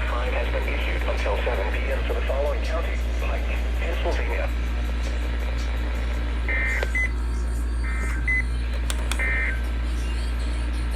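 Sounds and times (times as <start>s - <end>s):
low electrical hum: 0.0s - 10.9s.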